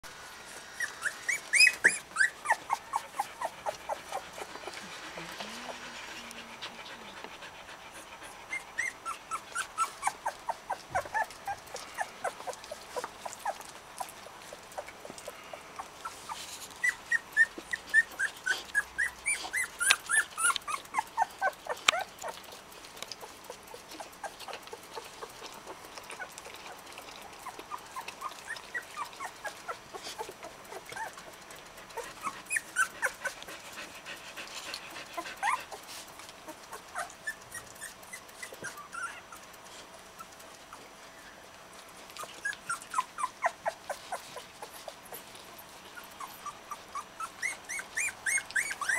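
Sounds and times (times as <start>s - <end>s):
puppies squeaking and whimpering: 0.4s - 22.6s, 23.2s - 48.9s.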